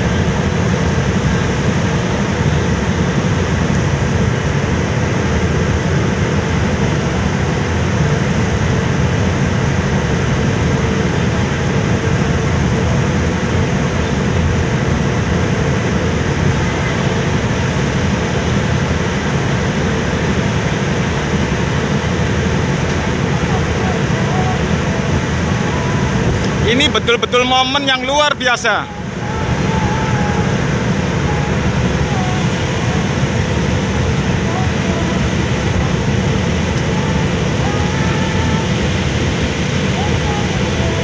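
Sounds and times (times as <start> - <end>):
ship engines rumbling: 0.0 - 41.0
water churning in wake: 0.0 - 41.0.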